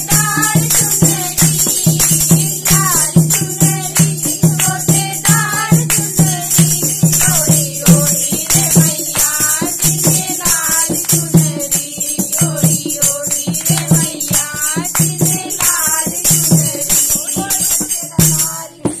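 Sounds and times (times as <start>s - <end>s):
jingling percussion: 0.0s - 19.0s
rhythmic beat: 0.0s - 19.0s
women singing devotional song: 0.0s - 19.0s.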